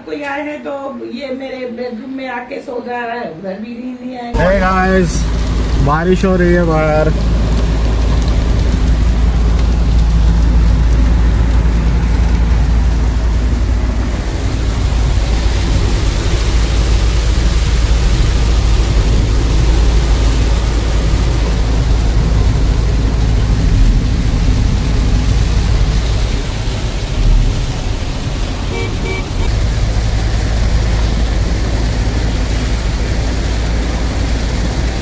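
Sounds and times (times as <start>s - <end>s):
constant low rumble: 4.4s - 35.0s
rain falling: 4.4s - 35.0s.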